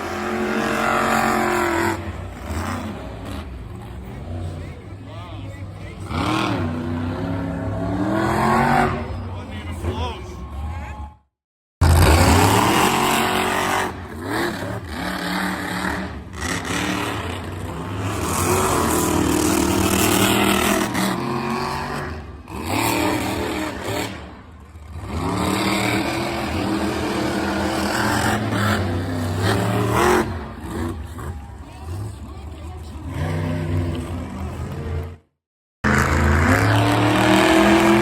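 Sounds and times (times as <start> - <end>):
truck engine revving hard: 0.0 - 10.0, 11.8 - 38.0.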